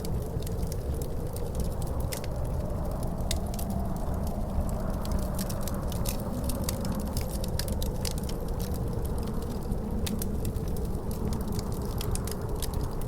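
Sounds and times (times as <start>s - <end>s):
low rush of wind: 0.0s - 13.0s
wood fire crackling and popping: 0.0s - 13.0s.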